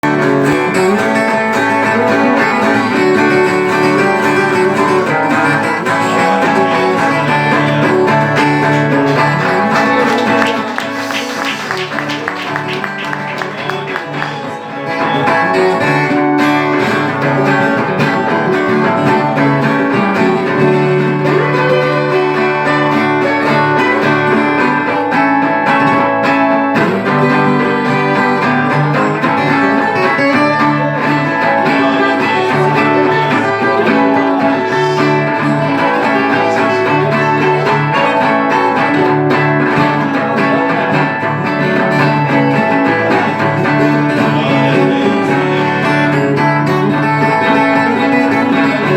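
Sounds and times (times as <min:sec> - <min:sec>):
acoustic guitar and viola playing: 0:00.0 - 0:48.9.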